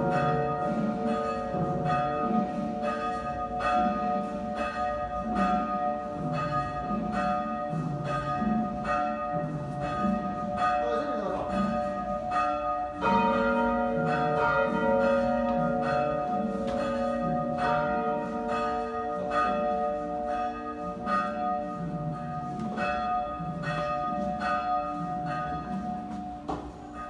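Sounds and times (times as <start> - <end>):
church bells tolling: 0.0 - 27.0.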